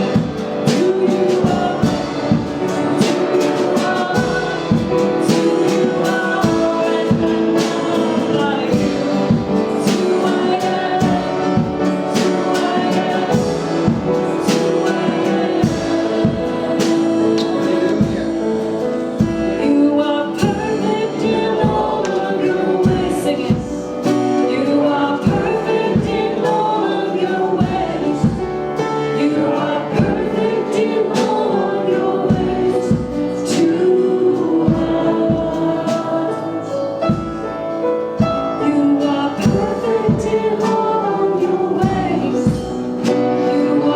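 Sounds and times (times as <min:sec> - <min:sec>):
band playing steady beat: 0:00.0 - 0:43.9
group singing worship music: 0:00.0 - 0:43.9.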